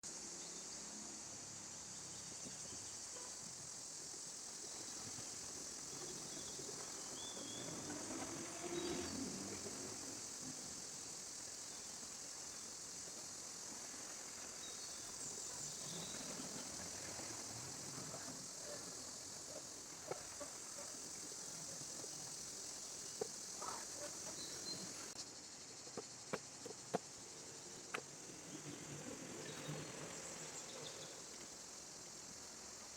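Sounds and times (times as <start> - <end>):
insects droning: 0.0 - 32.9
rustle: 0.0 - 32.9
steady high hiss: 0.0 - 32.9.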